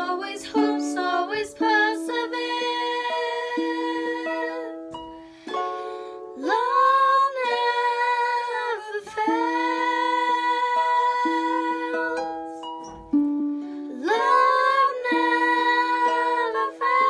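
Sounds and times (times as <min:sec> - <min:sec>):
woman and girl singing: 0:00.0 - 0:04.9, 0:06.3 - 0:12.4, 0:13.9 - 0:17.0
small harp plucked: 0:00.0 - 0:17.0.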